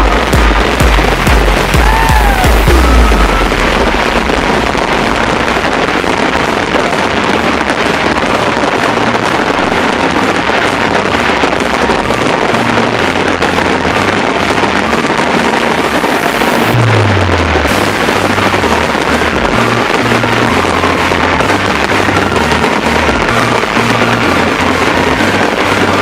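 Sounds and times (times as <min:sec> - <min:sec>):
fireworks crackling: 0:00.0 - 0:26.0.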